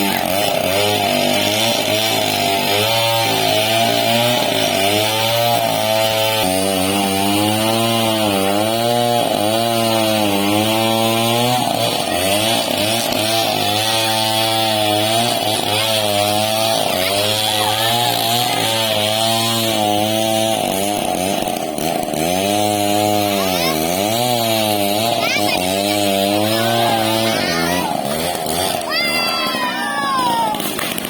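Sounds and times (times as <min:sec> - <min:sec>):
rasp of saw cut: 0:00.0 - 0:29.5
chainsaw cutting log: 0:00.0 - 0:31.0.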